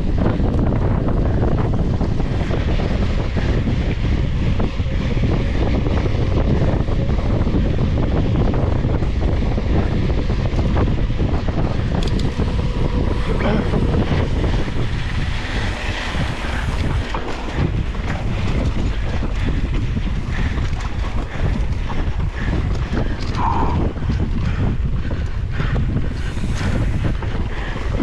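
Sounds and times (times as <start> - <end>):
bike knocking and rattling: 0.0 - 28.0
wind buffeting microphone: 0.0 - 28.0.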